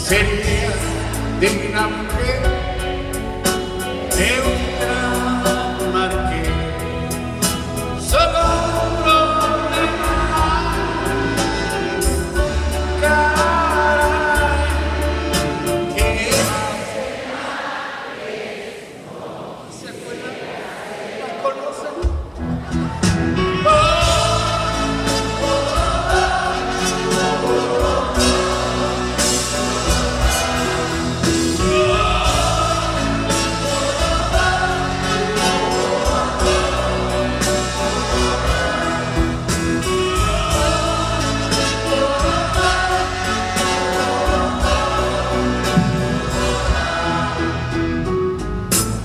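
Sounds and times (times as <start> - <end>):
live band playing a ballad: 0.0 - 17.0, 22.1 - 49.0
crowd singing wordless refrain: 0.0 - 48.5.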